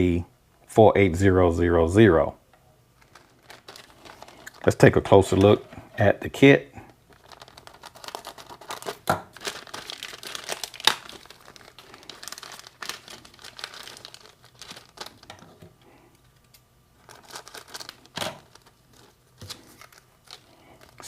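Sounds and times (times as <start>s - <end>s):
plastic packaging crinkling: 3.0s - 5.6s, 6.8s - 21.0s.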